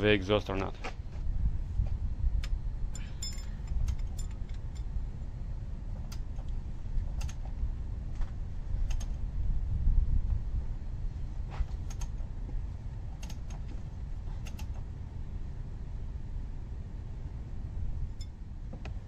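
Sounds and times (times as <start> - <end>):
low rumble: 1.0 - 19.0.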